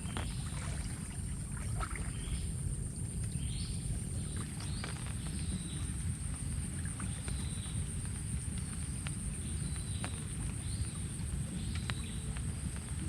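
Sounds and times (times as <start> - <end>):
insect drone: 0.0 - 13.0
running water rumble: 0.0 - 13.0.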